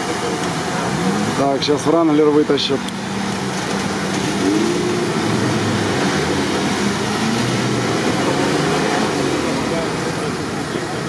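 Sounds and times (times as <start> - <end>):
off-road vehicle engines running: 0.0 - 11.0
outdoor noise: 0.0 - 11.0.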